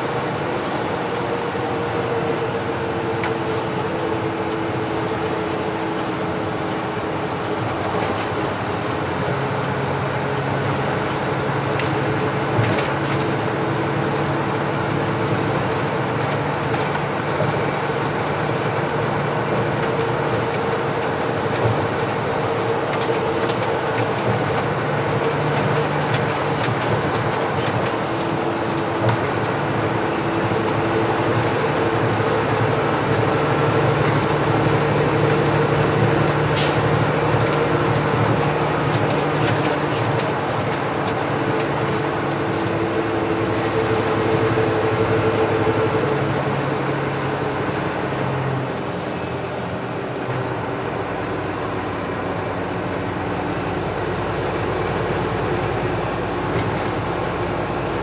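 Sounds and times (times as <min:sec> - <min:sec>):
road noise: 0:00.0 - 0:58.0
truck engine drone: 0:00.0 - 0:58.0.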